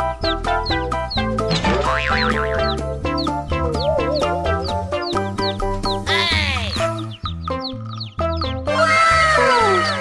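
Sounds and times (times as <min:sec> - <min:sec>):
upbeat music with plucked notes: 0:00.0 - 0:08.8.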